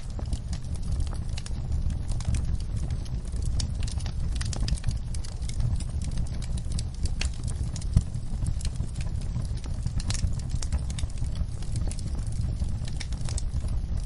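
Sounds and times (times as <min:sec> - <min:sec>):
fire pops and snaps: 0:00.0 - 0:14.0
low rumble of flames: 0:00.0 - 0:14.0.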